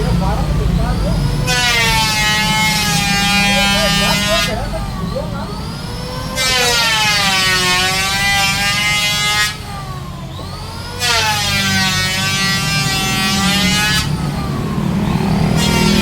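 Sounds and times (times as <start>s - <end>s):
power saw cutting wood: 0.0s - 16.0s.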